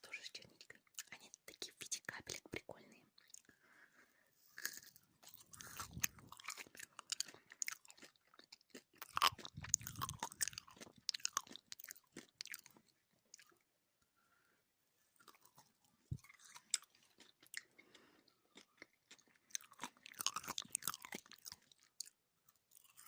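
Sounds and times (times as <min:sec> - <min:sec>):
chewing gummy candy: 0:00.2 - 0:03.6, 0:04.4 - 0:13.7, 0:15.2 - 0:23.0.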